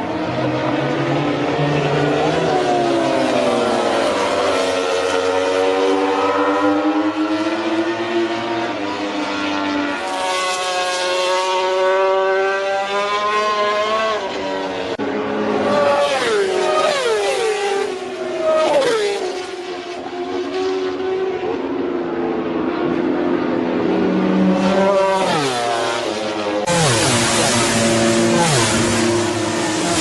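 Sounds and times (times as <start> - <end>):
motorcycles passing by: 0.0 - 30.0
racing motorcycles at high revs: 0.0 - 30.0.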